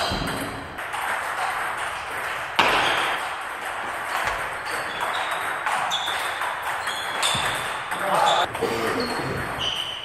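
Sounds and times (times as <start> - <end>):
table tennis balls ticking: 0.0 - 10.0.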